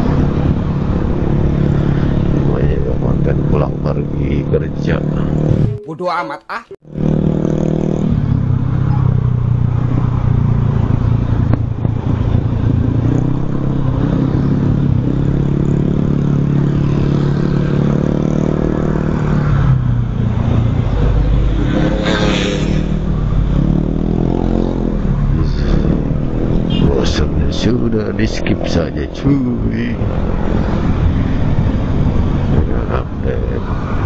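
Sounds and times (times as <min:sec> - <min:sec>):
wind and road noise: 0:00.0 - 0:05.7, 0:06.8 - 0:34.0.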